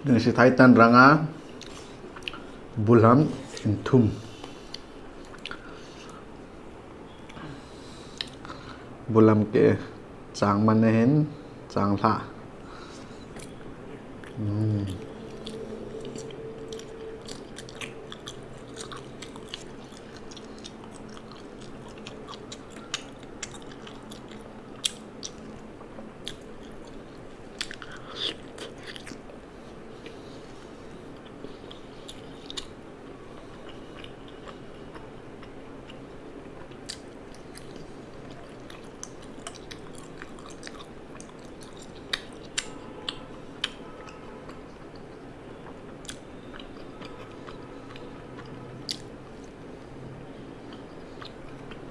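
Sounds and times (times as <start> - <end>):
person chewing: 1.4 - 2.7, 3.4 - 8.9, 12.6 - 49.6, 50.6 - 51.9.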